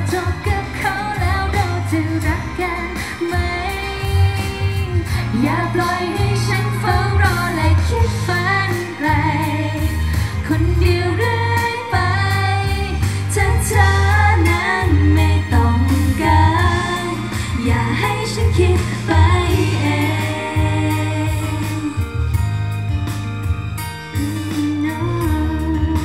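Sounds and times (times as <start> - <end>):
women singing pop song: 0.0 - 22.4, 24.2 - 26.0
backing track with drum beat: 0.0 - 26.0.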